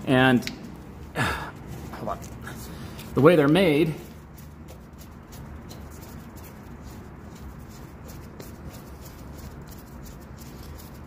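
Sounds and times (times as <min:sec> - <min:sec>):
low steady hum: 0:00.0 - 0:11.0
rubbing and scuffing on rubber: 0:01.5 - 0:11.0.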